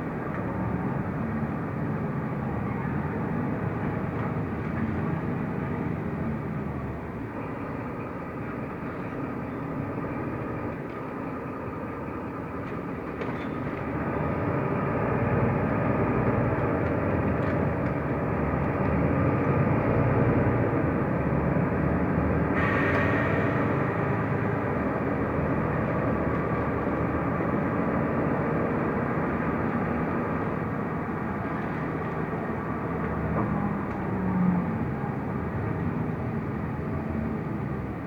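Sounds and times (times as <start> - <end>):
bus engine and road noise: 0.0 - 38.0.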